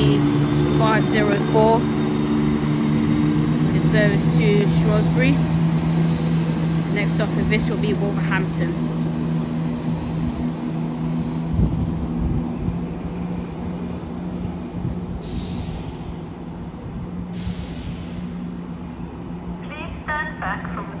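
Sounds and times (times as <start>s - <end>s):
diesel train engines droning: 0.0s - 21.0s.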